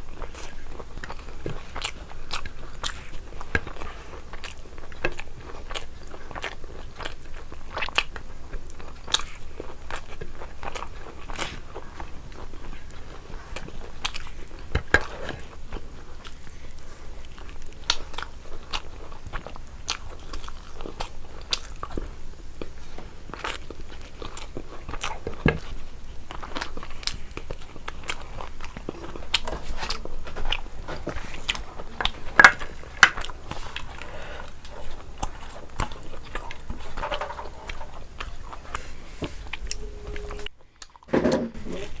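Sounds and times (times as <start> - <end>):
chewing with crunches: 0.0 - 41.1.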